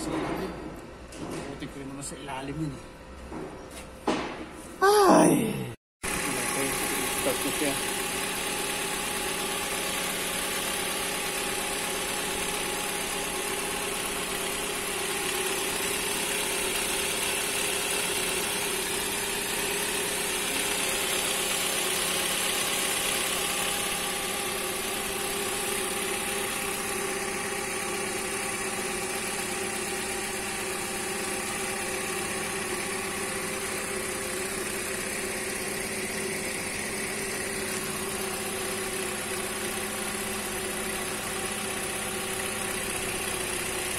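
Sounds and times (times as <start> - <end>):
car engine idling: 6.1 - 43.9.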